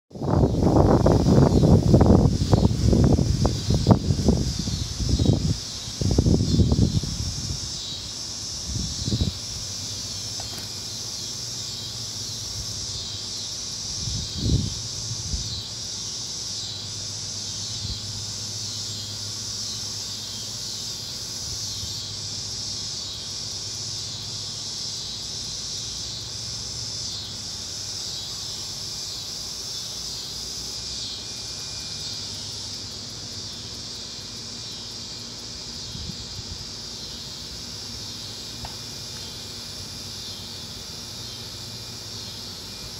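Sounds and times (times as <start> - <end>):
insects chirring: 0.2 - 42.9.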